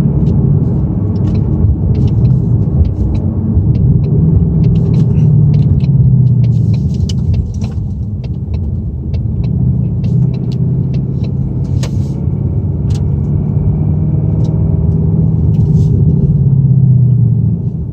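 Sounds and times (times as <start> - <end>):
car engine running: 0.0 - 17.9
engine ticks and clicks: 0.0 - 17.9.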